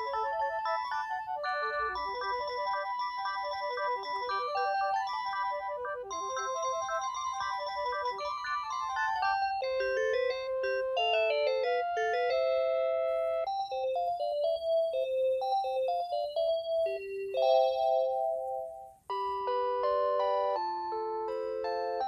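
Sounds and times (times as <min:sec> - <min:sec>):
phone melody ringtone: 0:00.0 - 0:22.0.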